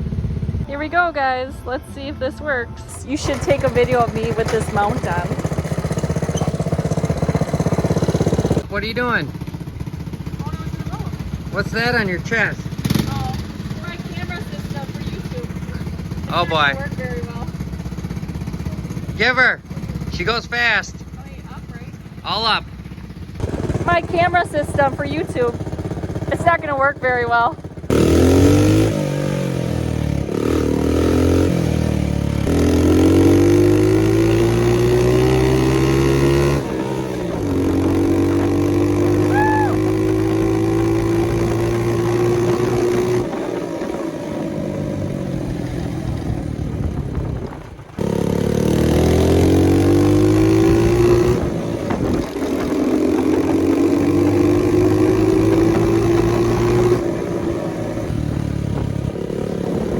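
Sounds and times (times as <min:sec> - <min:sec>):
small motorcycle engine shifting gears: 0:02.9 - 0:59.9.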